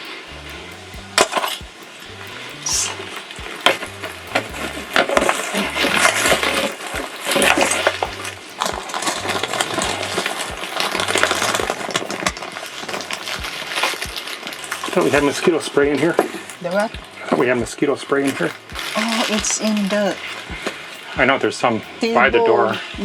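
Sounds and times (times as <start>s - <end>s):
quiet music with bass line: 0.0s - 23.0s.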